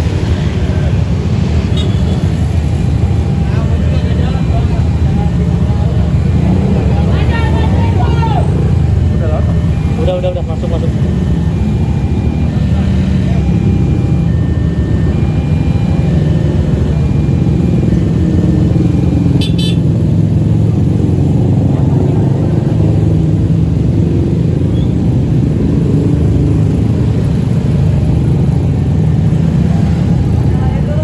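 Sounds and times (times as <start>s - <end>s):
heavy vehicle engine running: 0.0s - 31.0s.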